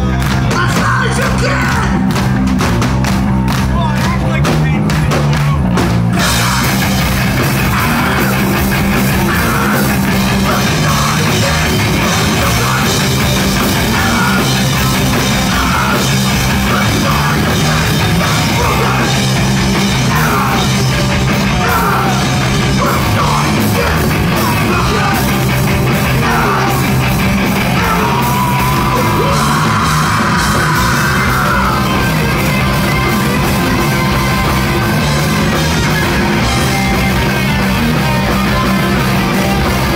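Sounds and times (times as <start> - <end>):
shouted lead vocal: 0.0 - 2.5, 3.4 - 39.9
punk band playing: 0.0 - 39.9.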